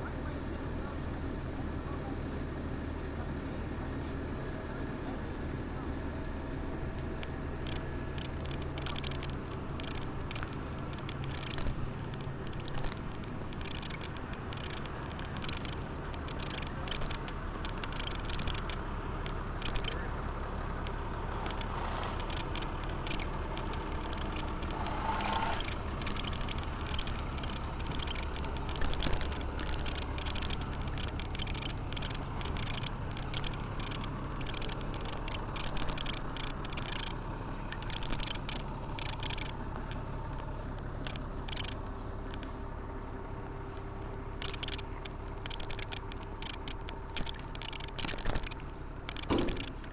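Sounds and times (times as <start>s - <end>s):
low steady hum: 4.6s - 49.9s
handlebars rattling: 7.0s - 49.9s
bicycle freewheel ticking: 7.1s - 42.6s, 43.5s - 49.9s.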